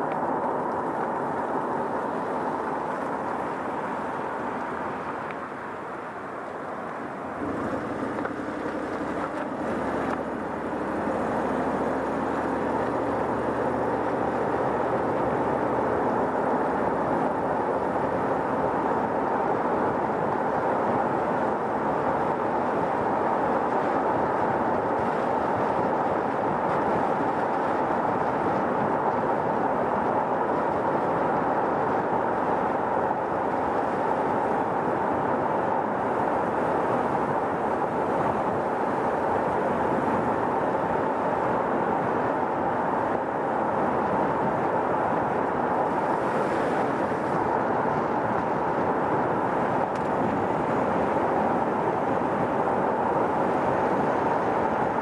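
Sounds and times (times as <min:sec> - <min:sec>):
tyre and road noise: 0:00.0 - 0:55.0.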